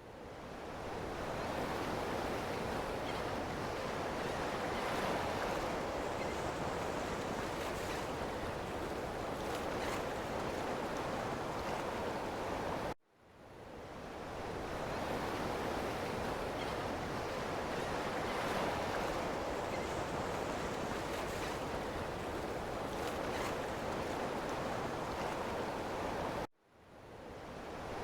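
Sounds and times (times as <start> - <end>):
ocean waves on shore: 0.5 - 13.0, 14.0 - 26.5.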